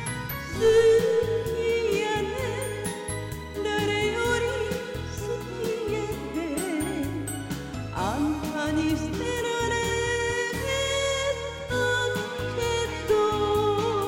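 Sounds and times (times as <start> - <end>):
karaoke backing track: 0.0 - 14.0
woman singing with vibrato: 0.5 - 14.0.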